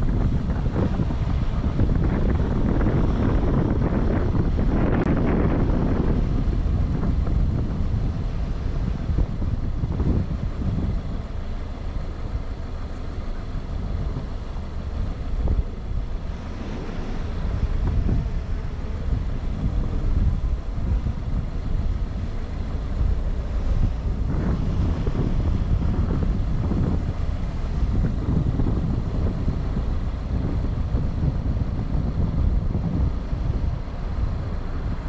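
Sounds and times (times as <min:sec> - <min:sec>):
car and tyres rumbling: 0:00.0 - 0:35.0
car knocking over bumps: 0:00.0 - 0:35.0
wind buffeting microphone: 0:00.0 - 0:35.0.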